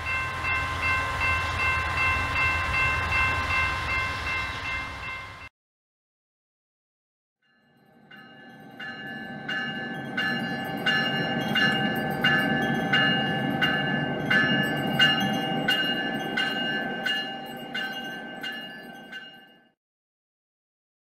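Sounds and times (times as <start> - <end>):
railroad bell ringing: 0.0 - 5.5, 7.4 - 19.8
train rumbling: 0.0 - 5.5, 8.1 - 19.5.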